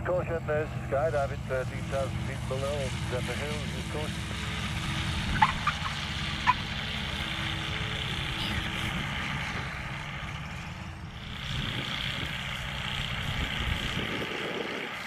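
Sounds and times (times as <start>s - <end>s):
aircraft engine and propeller: 0.0s - 15.0s.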